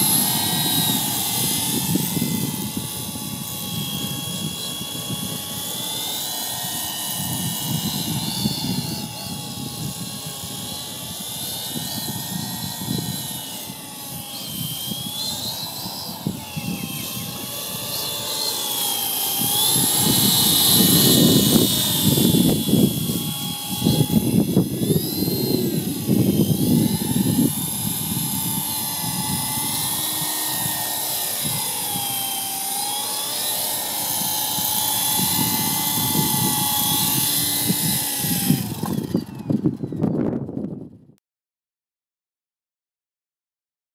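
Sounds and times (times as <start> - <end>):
wind buffeting microphone: 0.0 - 5.9, 6.5 - 18.3, 19.2 - 32.7, 34.0 - 41.2
rc helicopter rotor whine: 0.0 - 41.2.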